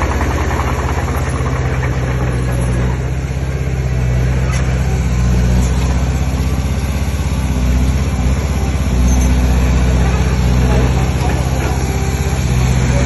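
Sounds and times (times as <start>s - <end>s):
heavy diesel engine throbbing: 0.0s - 13.0s.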